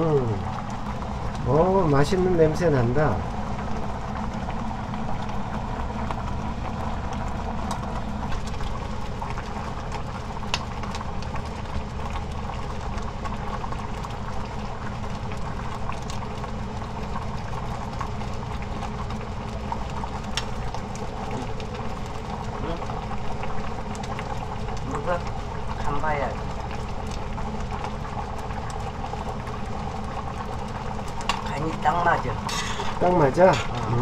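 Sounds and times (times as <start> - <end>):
pot boiling: 0.0 - 34.0
steady hum: 0.0 - 34.0.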